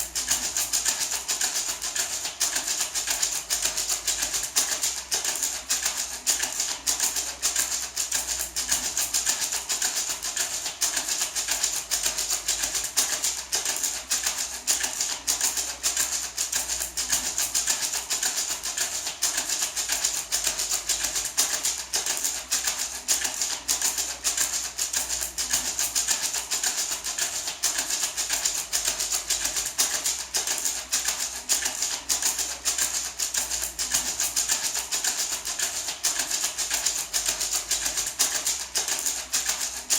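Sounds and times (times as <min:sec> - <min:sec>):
maraca rattling: 0:00.0 - 0:39.9.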